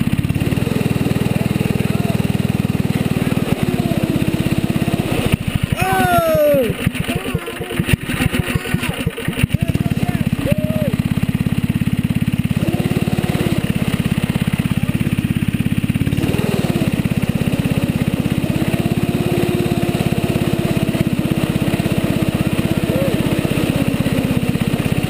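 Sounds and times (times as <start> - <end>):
snowmobile engine running: 0.0 - 25.0.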